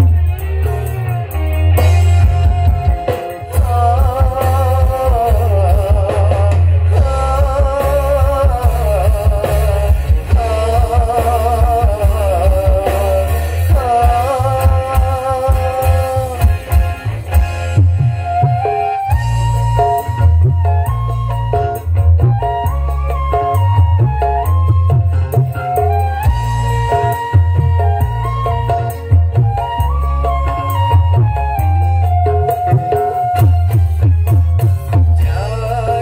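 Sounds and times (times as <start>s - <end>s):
loud music with heavy bass: 0.0s - 36.0s.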